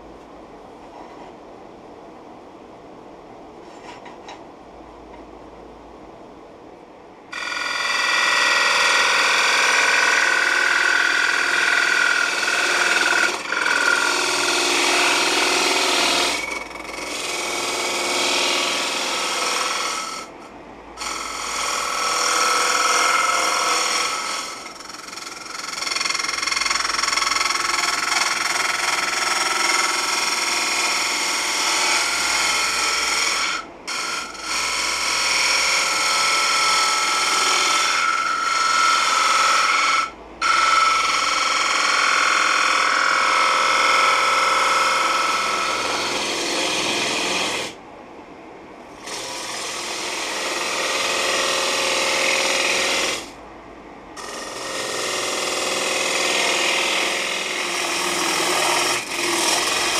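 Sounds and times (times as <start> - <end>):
gouge scraping wood on lathe: 7.4 - 20.3, 21.0 - 47.8, 49.0 - 53.3, 54.2 - 59.9.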